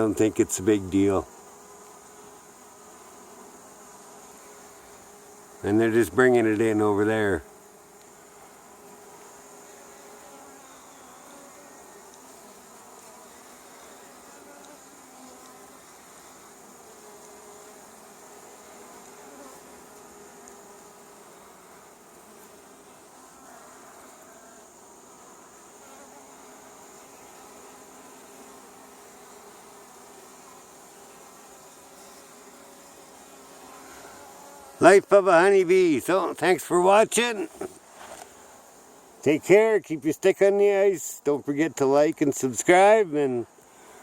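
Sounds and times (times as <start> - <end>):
bees buzzing: 0.0 - 44.0.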